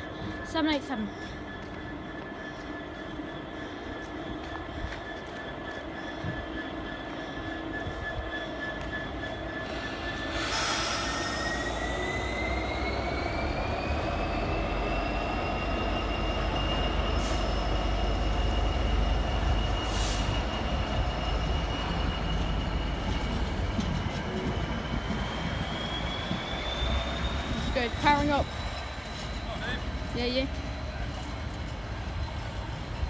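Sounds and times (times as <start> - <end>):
locomotive rumble with high whine: 0.0 - 33.0.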